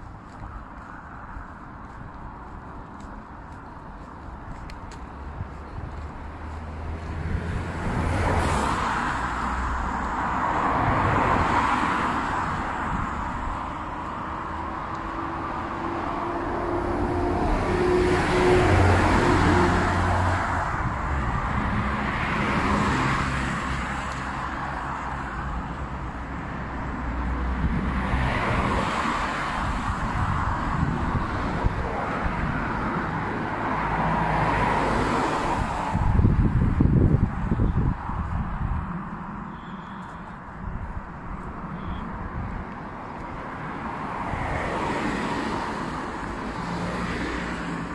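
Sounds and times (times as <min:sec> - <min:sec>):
cars and vans passing: 0:00.0 - 0:47.9.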